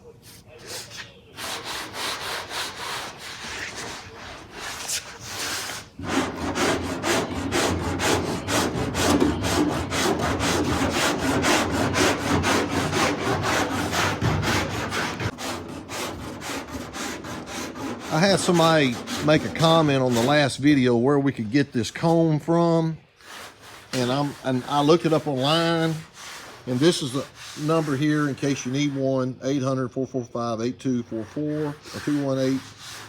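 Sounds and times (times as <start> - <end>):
hand tool rubbing back and forth: 0.3 - 20.8, 23.2 - 29.8, 30.8 - 33.0.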